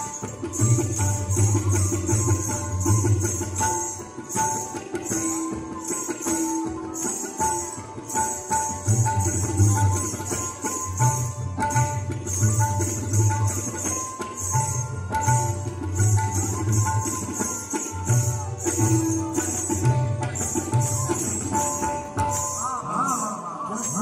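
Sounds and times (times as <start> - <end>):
jingling shaker rhythm: 0.0 - 24.0.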